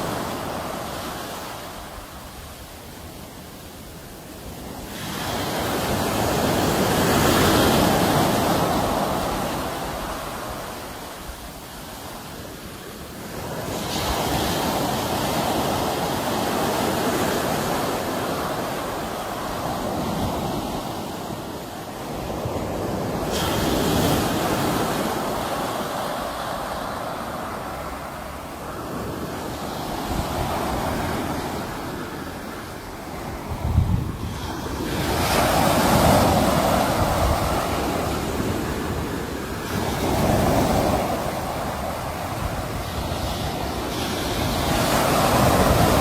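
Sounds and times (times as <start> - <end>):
sea waves breaking: 0.0 - 46.0.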